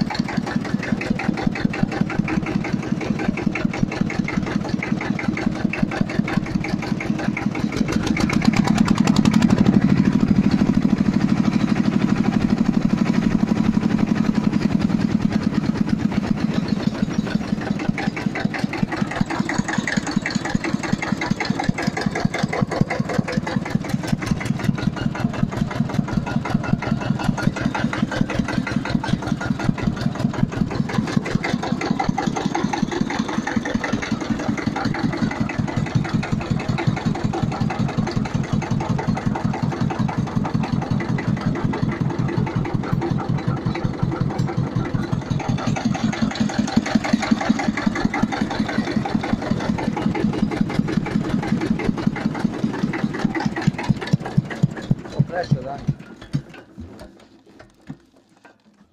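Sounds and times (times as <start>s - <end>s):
tractor engine idling: 0.0s - 58.9s.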